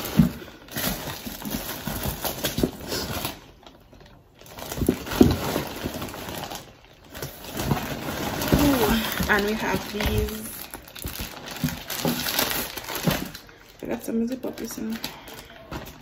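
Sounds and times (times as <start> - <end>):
plastic packaging rustling: 0.0 - 16.0.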